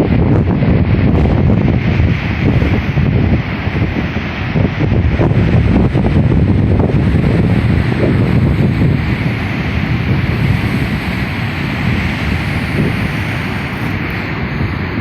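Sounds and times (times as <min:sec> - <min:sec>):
sea waves washing ashore: 0:00.0 - 0:15.0
wind buffeting microphone: 0:00.0 - 0:15.0.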